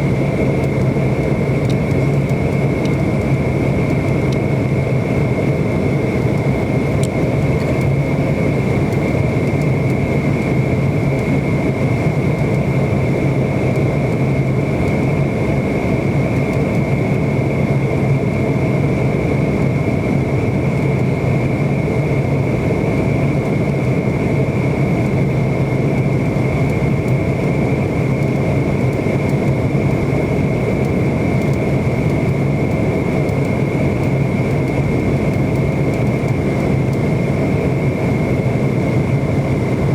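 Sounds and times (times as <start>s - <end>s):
jet engine and airflow rush: 0.0s - 39.9s.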